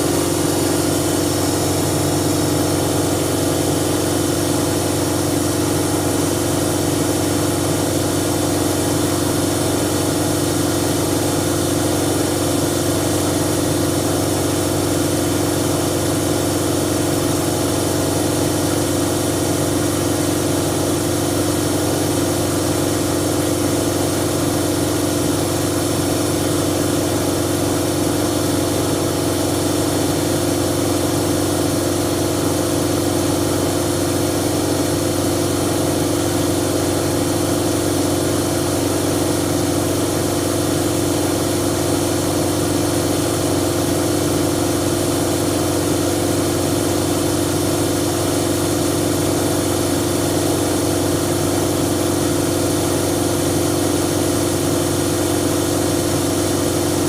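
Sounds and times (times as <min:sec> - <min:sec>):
washing machine hum and whine: 0:00.0 - 0:57.0.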